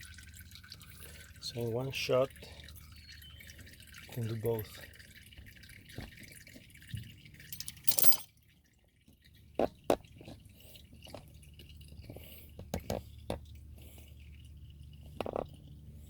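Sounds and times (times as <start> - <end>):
oil dripping into a pan: 0.0 - 16.0.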